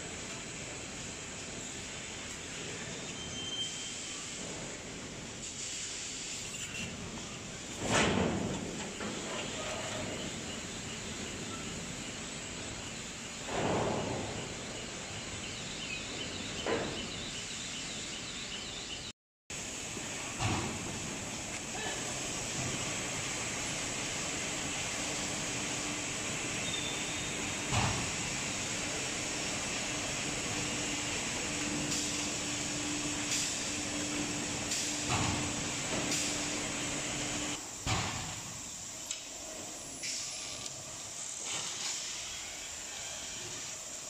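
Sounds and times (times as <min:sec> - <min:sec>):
hot press mechanical hiss: 0:00.4 - 0:15.2, 0:19.6 - 0:44.0.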